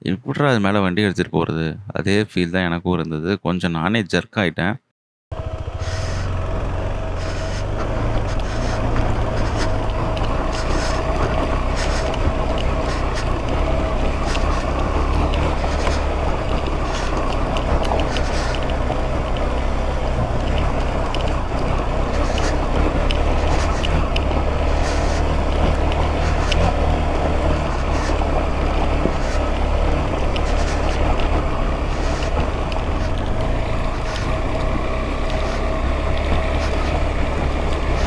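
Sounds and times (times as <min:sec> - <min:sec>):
motorcycle engine running: 0:05.3 - 0:38.0.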